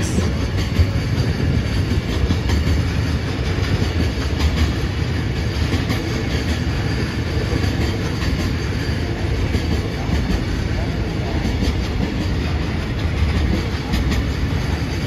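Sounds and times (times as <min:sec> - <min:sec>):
train wheels rumbling on rail: 0:00.0 - 0:15.0
wheels clacking over rail joints: 0:00.0 - 0:15.0.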